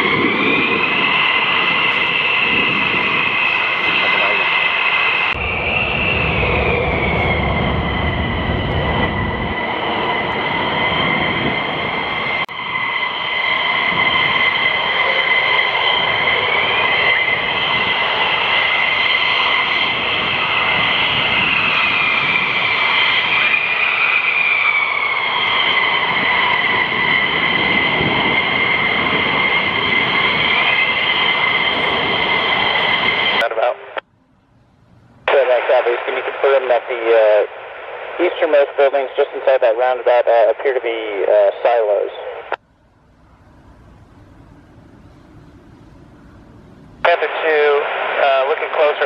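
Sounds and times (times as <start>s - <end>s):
jet engines whining: 0.0s - 49.0s.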